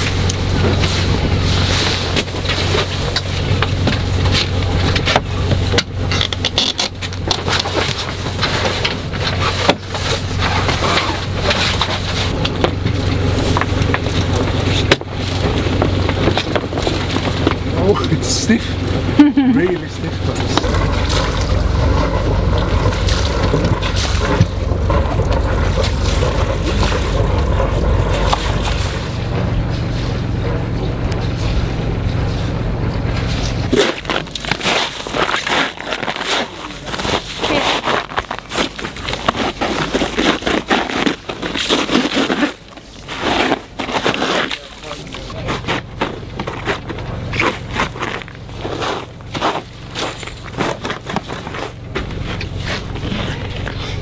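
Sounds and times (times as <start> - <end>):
boat diesel engine running: 0.0 - 54.0
low mechanical hum: 0.0 - 54.0.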